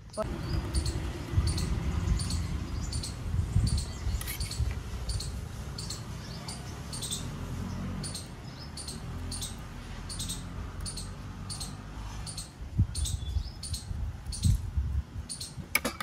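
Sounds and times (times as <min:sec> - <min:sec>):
bird chirping: 0:00.0 - 0:14.6, 0:15.2 - 0:15.6.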